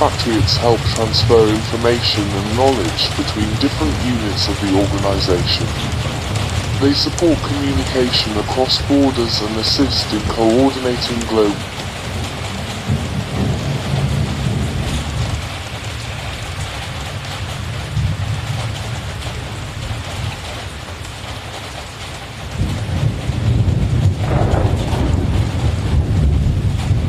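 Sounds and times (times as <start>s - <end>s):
heavy rain: 0.0s - 27.0s
thunder rumbling: 0.0s - 27.0s.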